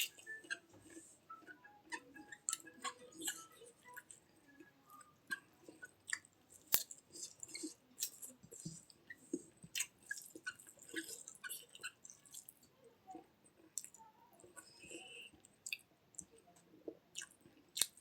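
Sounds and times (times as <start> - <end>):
person chewing food: 0.0 - 12.7, 13.6 - 18.0.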